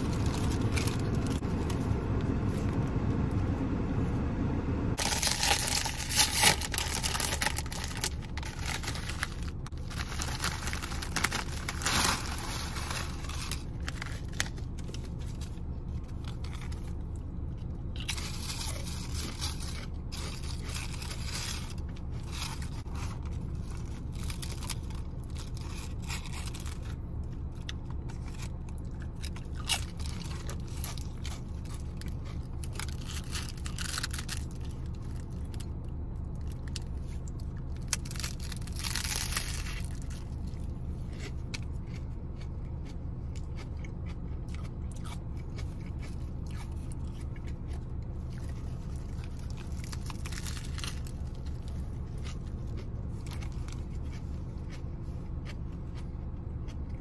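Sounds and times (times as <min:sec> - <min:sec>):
chip bag crinkling and tearing: 0:00.0 - 0:01.8, 0:05.0 - 0:42.5, 0:43.4 - 0:54.8
chips crunching and rustling: 0:00.0 - 0:01.9, 0:05.0 - 0:57.0
steady low hum: 0:00.0 - 0:57.0.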